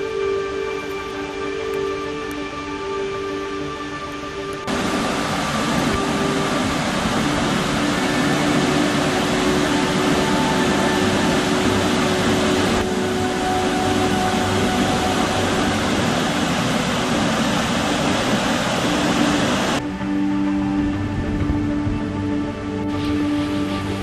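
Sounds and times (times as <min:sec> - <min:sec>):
waterfall roaring: 0:00.0 - 0:19.8.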